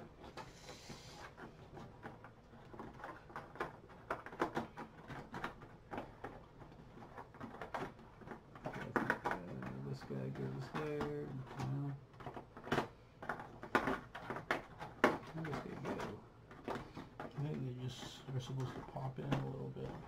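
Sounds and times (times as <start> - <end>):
plastic miniatures clicking and tapping: 1.2 - 20.0.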